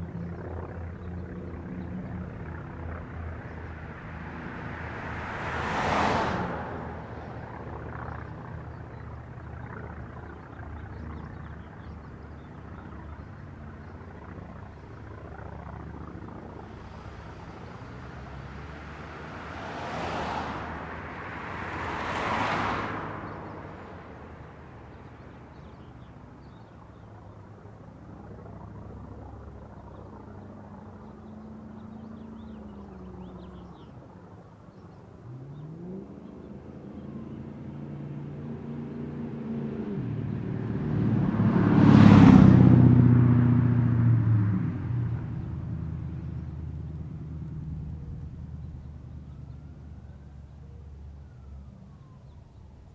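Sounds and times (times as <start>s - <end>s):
vehicles passing by: 0.0s - 52.9s.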